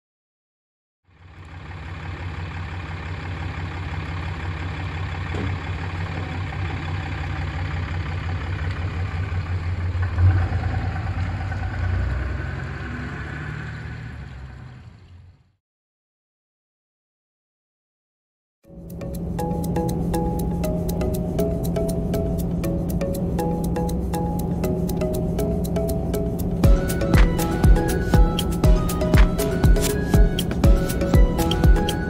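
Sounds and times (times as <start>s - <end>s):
vehicle engine idling: 1.1s - 15.6s, 18.7s - 32.0s.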